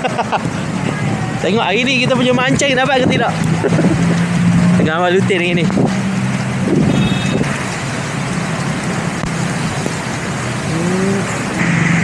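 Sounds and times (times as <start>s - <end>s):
low engine hum: 0.0s - 12.0s
road traffic: 0.0s - 12.0s
rain hiss: 0.1s - 12.0s.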